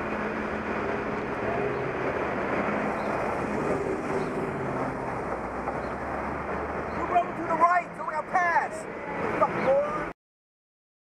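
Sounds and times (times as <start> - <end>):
vehicle engine and road noise: 0.0 - 10.2.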